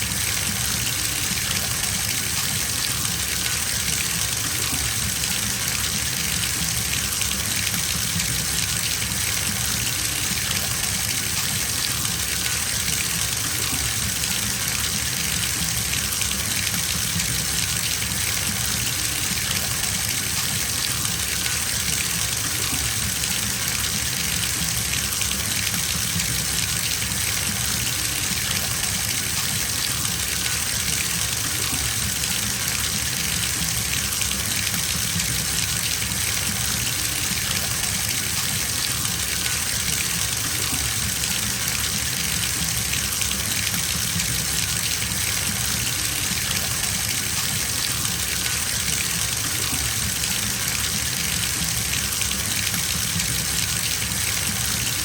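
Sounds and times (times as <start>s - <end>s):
water gushing into bathtub: 0.0s - 55.0s.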